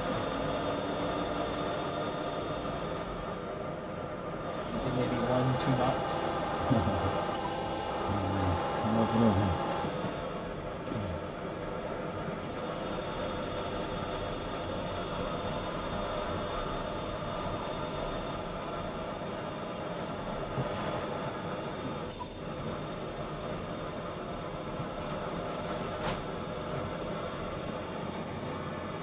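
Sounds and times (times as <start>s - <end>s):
machinery hum and rumble: 0.0s - 29.0s.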